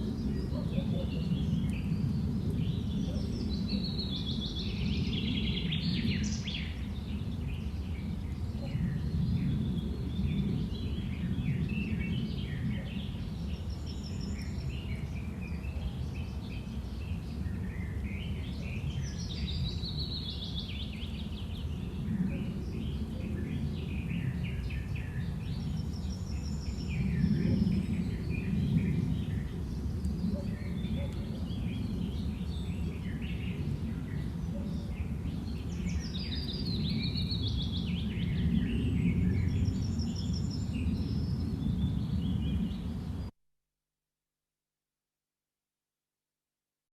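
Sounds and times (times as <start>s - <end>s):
birds chirping and trilling: 0.0s - 43.3s
wind rumbling: 0.0s - 43.3s.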